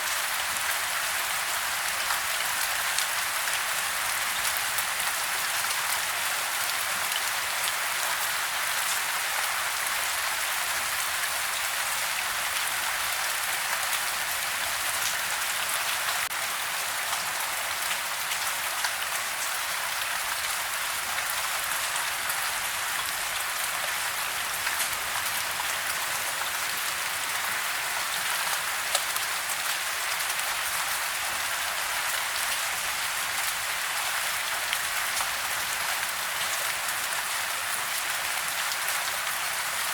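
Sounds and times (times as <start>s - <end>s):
rain falling on a house: 0.0s - 39.9s.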